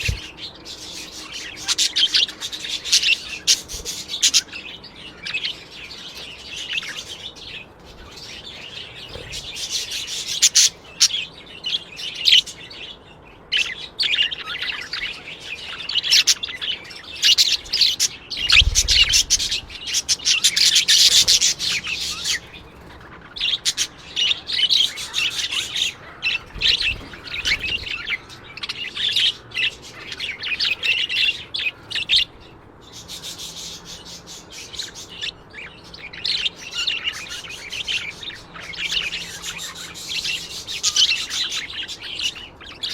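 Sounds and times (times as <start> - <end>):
birds chirping and twittering: 0.0 - 42.9.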